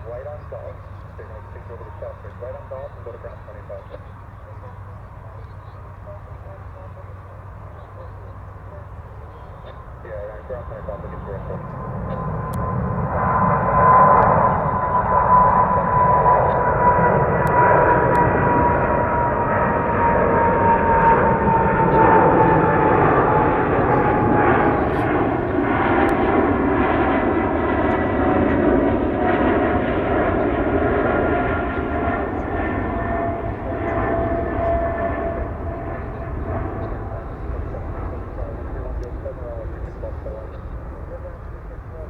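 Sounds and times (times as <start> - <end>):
jet engines roaring on takeoff: 0.0 - 42.0.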